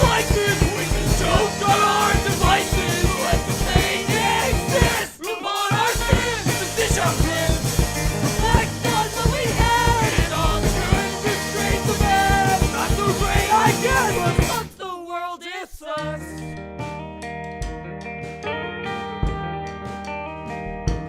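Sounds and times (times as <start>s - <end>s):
rock band with singing: 0.0s - 21.0s.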